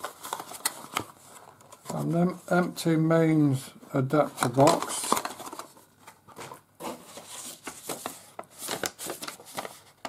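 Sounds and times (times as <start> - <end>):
cardboard and paper rustling: 0.0 - 2.7, 3.9 - 10.0.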